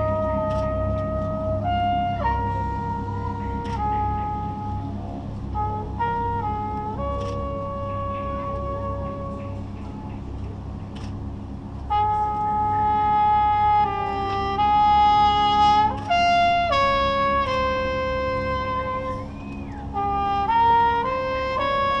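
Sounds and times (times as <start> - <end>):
soft sustained low chord: 0.0 - 21.8
brass playing slow melody: 0.0 - 22.0.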